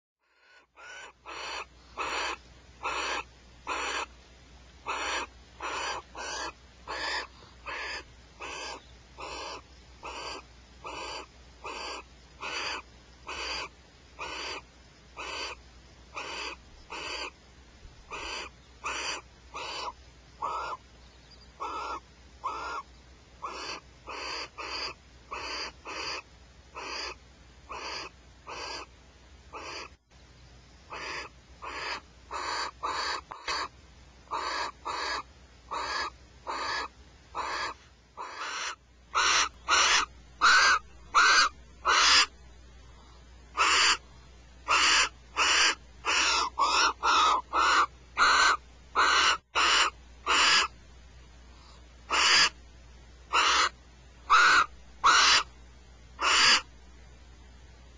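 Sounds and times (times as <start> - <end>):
barn owl screeching: 0.2 - 4.1, 4.9 - 14.6, 15.2 - 17.4, 18.1 - 20.8, 21.6 - 26.2, 26.8 - 28.9, 29.5 - 30.0, 30.9 - 33.7, 34.3 - 42.4, 43.6 - 44.0, 44.6 - 50.8, 52.1 - 52.6, 53.3 - 55.5, 56.2 - 56.7.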